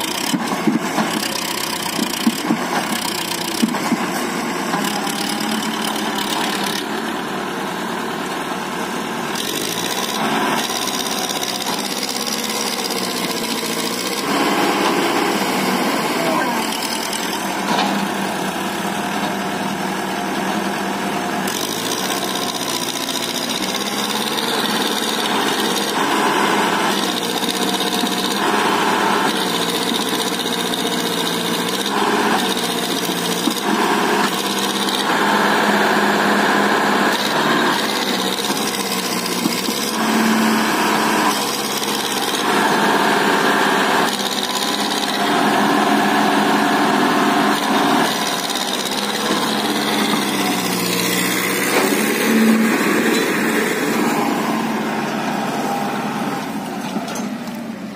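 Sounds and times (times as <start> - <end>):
tractor engine under heavy load: 0.0 - 57.9.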